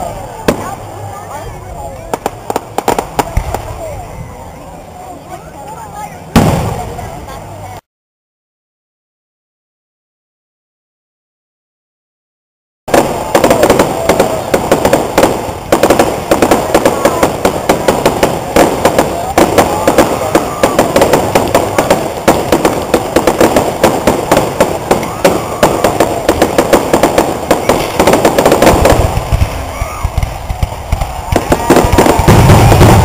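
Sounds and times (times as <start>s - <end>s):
fireworks bursts and crackling: 0.0s - 7.8s, 12.9s - 33.0s.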